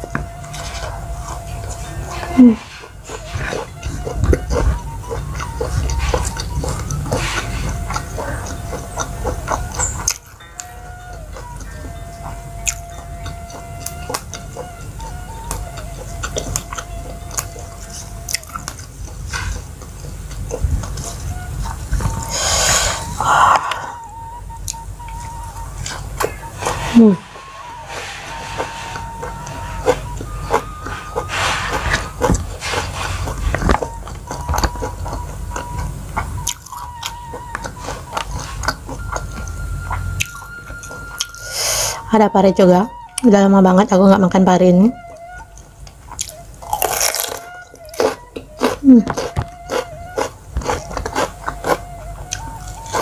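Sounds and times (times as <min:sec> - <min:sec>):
chewing: 0:00.0 - 0:42.1, 0:45.0 - 0:53.0
bamboo flute music: 0:00.0 - 0:53.0.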